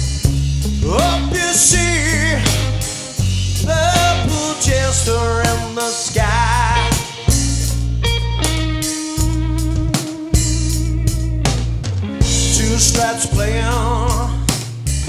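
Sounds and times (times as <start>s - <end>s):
blues-rock band playing live: 0.0s - 15.0s
electric guitar lead with vibrato: 0.7s - 14.6s.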